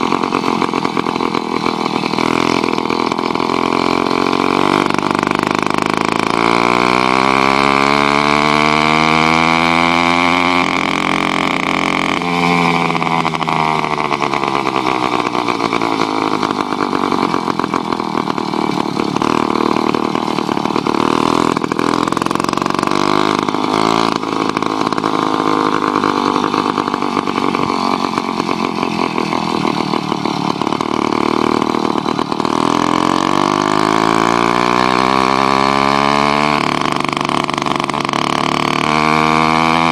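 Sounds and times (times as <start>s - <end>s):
two-stroke bicycle engine revving: 0.0s - 39.9s.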